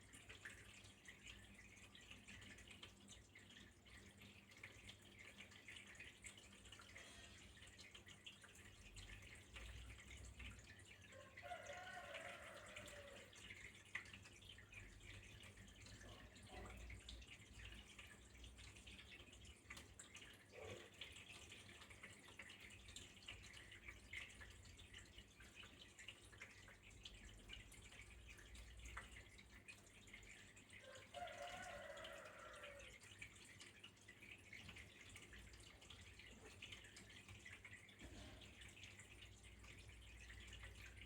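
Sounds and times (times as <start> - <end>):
faint trickling water: 0.0 - 41.0
water dripping: 0.0 - 41.0.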